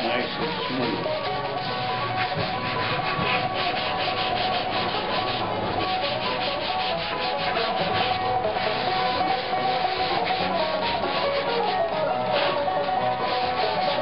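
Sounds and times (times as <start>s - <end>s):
sanding block rubbing wood: 0.0s - 14.0s.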